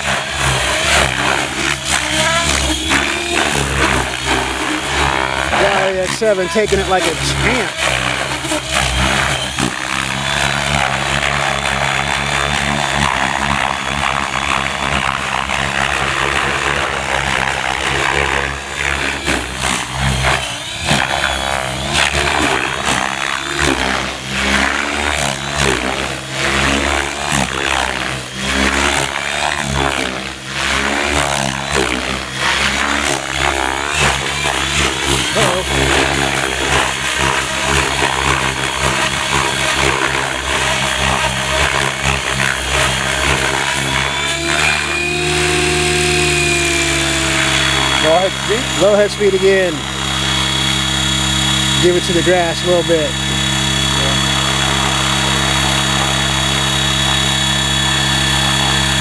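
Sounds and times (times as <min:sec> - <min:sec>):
rc helicopter rotor whine: 0:00.0 - 0:59.0.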